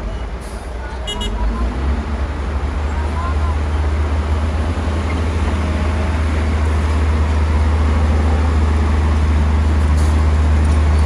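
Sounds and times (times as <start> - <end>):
bulldozer engine droning: 0.0 - 11.0.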